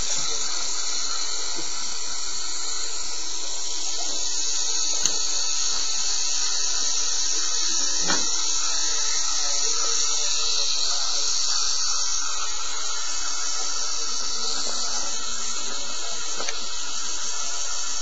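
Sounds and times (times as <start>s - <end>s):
small electric motor whining: 0.0s - 18.0s.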